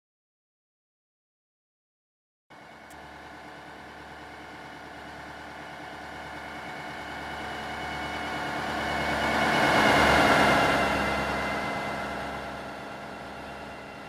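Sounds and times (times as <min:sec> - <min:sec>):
diesel locomotives running: 0:02.6 - 0:14.0.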